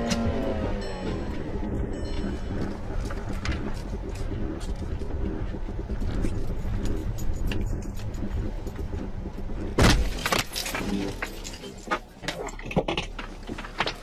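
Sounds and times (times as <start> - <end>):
car rumbling over rough track: 0.0 - 14.0.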